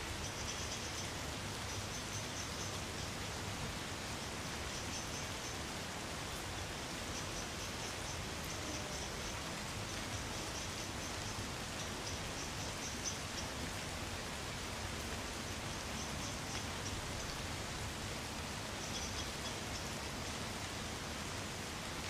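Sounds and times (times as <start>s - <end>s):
light rain on trees: 0.0s - 22.0s.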